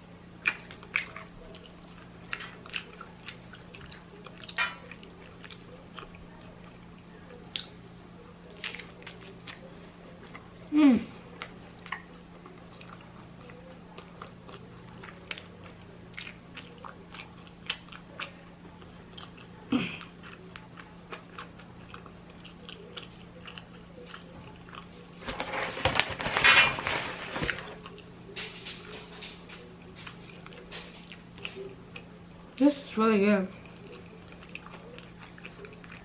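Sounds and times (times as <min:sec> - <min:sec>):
crunchy chewing: 0:00.3 - 0:32.6, 0:33.5 - 0:36.0.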